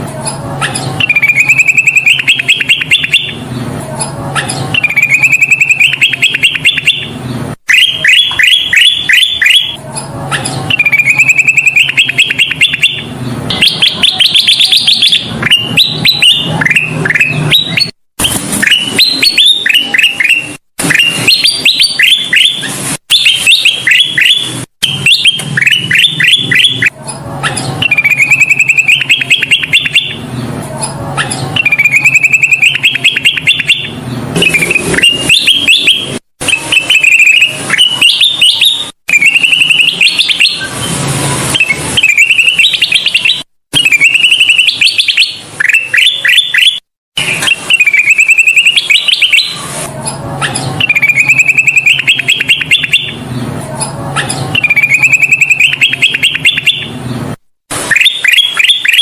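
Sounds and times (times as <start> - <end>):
bird chirping and trilling: 0.0 - 59.0.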